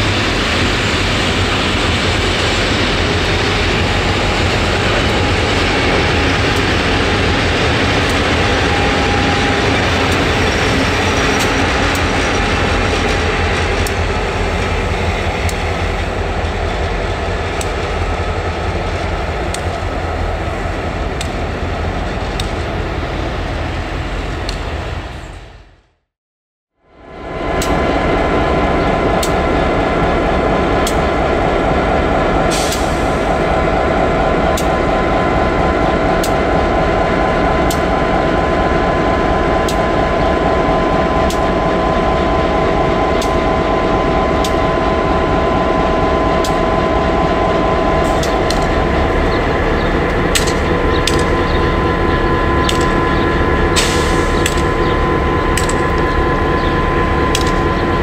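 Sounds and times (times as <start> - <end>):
diesel locomotive engine drone: 0.0 - 26.1, 26.8 - 58.0.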